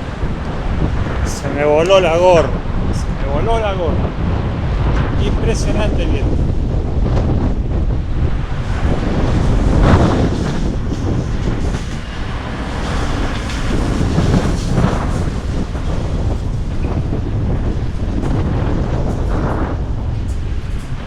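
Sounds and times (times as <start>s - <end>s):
storm wind buffeting microphone: 0.0s - 21.0s.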